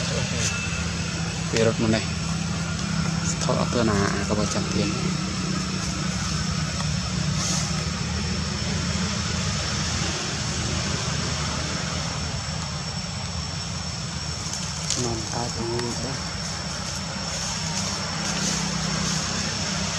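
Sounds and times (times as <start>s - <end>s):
high-pitched whine: 0.0s - 19.9s.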